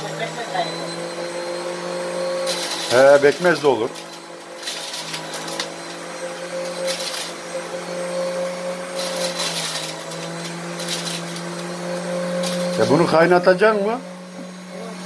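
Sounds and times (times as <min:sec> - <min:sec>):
juicer motor hum: 0:00.0 - 0:15.0
grapes being shredded: 0:00.8 - 0:15.0.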